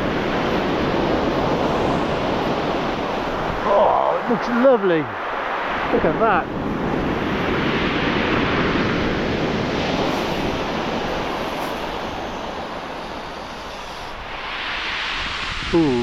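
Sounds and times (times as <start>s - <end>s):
waves washing onto shingle beach: 0.0s - 16.0s.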